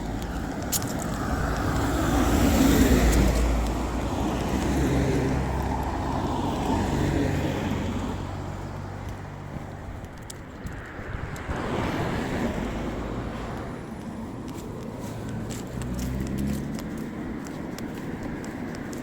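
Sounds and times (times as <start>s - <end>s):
vehicle passing by: 0.0s - 10.0s, 10.7s - 18.9s.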